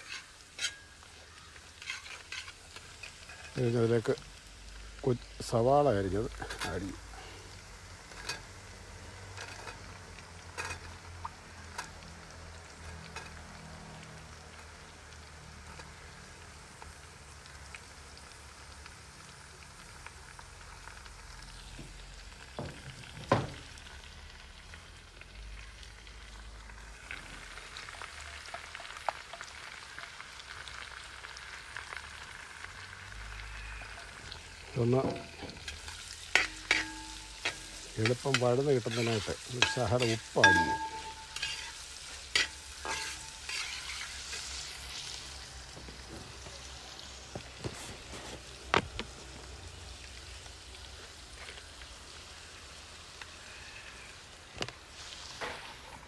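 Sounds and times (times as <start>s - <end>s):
onions sizzling in oil: 0.0s - 56.0s.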